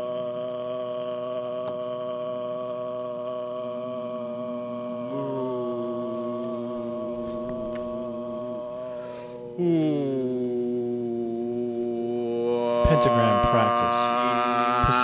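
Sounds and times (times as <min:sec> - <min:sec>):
male voices chanting a drone: 0:00.0 - 0:15.0.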